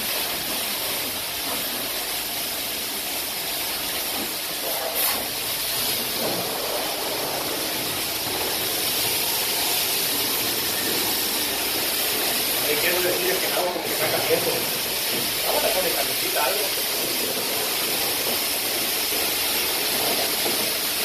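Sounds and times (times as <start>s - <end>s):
high-pressure water jet spraying: 0.0s - 21.0s.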